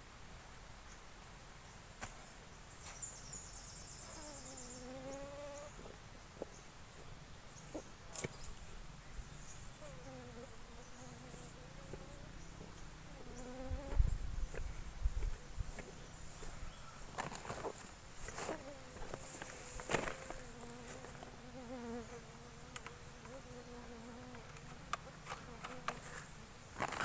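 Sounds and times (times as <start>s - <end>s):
insect buzzing past: 2.0s - 6.6s, 7.5s - 27.0s.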